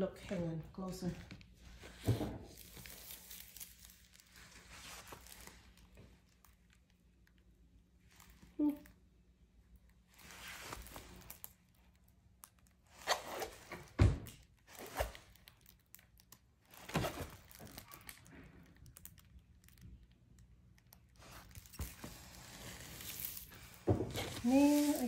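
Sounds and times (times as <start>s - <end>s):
plastic crinkling and rustling: 0.2s - 8.8s, 9.8s - 13.7s, 14.3s - 25.0s.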